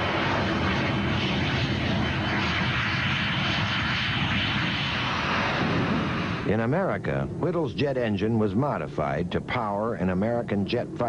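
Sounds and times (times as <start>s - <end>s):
jet engine running: 0.0s - 11.0s.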